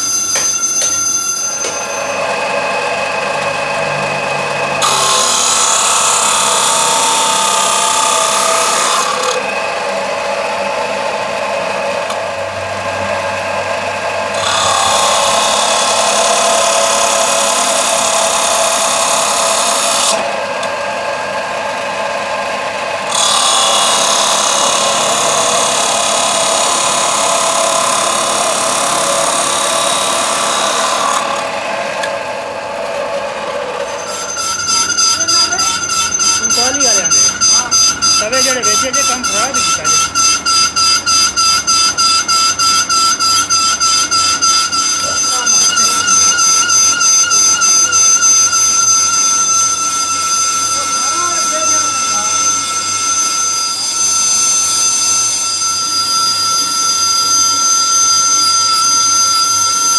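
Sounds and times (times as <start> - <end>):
cut-off wheel screeching through metal: 0.0 - 21.5, 23.0 - 59.9
chop saw whining: 0.0 - 59.9.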